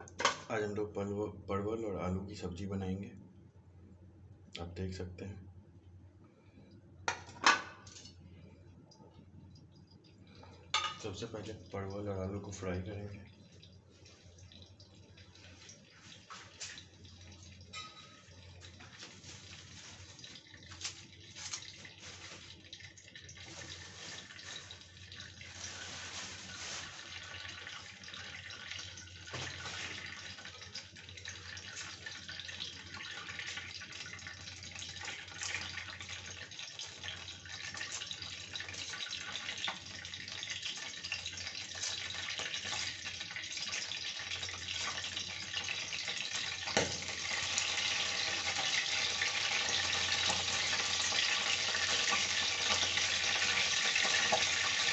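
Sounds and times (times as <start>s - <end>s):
oil crackling sizzle: 7.1s - 54.9s.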